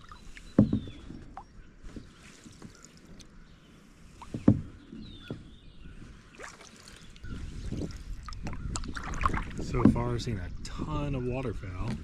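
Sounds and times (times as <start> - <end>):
paddle strokes in water: 0.0 - 10.2.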